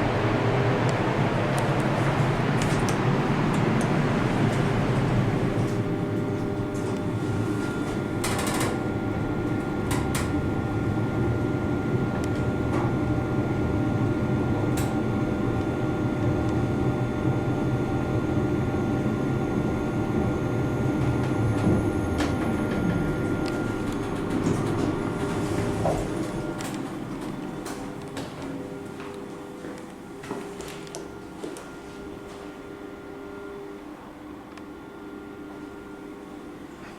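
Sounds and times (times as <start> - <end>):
lift running rumble: 0.0 - 36.9.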